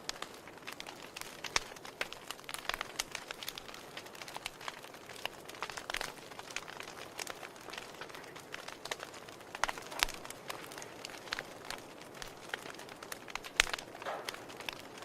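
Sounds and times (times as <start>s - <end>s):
soft hiss of flame: 0.0s - 15.0s
wood fire crackling and popping: 0.0s - 15.0s.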